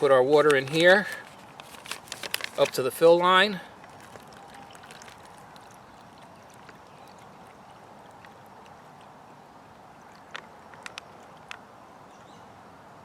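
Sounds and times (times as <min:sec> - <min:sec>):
water trickling into plastic bag: 0:00.0 - 0:11.5.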